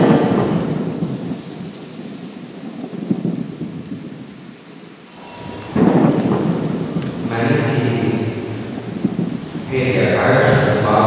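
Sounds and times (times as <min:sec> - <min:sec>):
thunder rumbling: 0:00.0 - 0:04.3, 0:05.1 - 0:11.0.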